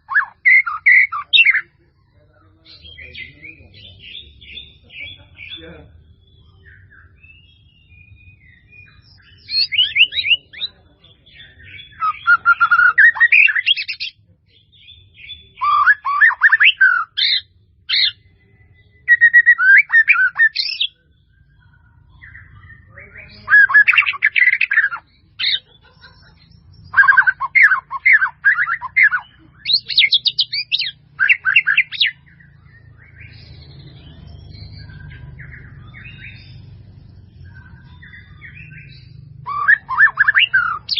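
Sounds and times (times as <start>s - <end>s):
bird whistles and trills: 0.0s - 1.8s, 6.2s - 10.8s, 11.4s - 40.9s.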